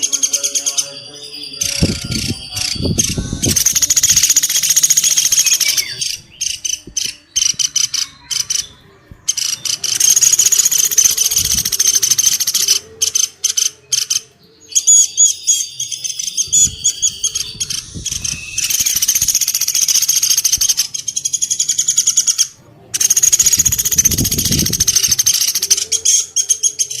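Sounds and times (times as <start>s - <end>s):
woodpecker call rattling trills: 0.0s - 8.7s, 9.3s - 27.0s.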